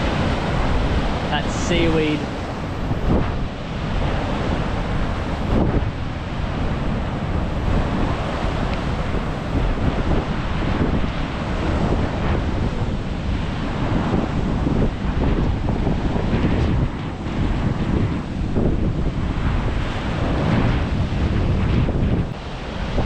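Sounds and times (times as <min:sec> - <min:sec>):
ocean surf washing: 0:00.0 - 0:23.0
wind buffeting microphone: 0:00.0 - 0:23.0.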